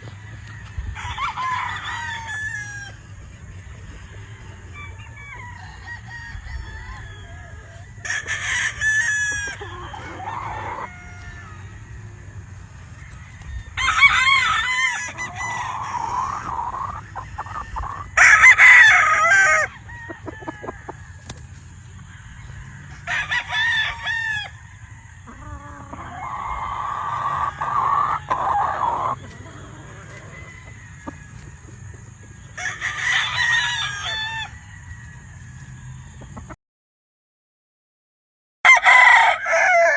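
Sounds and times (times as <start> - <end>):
roosters crowing: 0.0 - 36.6, 38.6 - 39.9.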